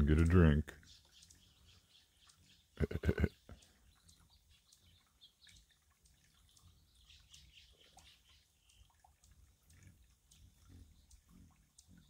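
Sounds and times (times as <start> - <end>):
water dripping: 0.0 - 12.0
faint bird chirps: 0.7 - 12.0.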